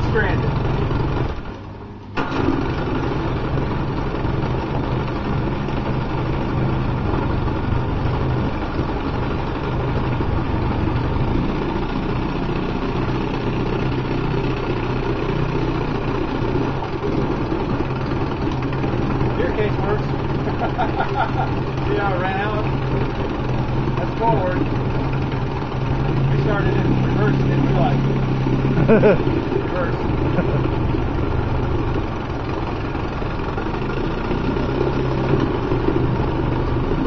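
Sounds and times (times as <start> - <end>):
outboard motor running at low speed: 0.0 - 37.0.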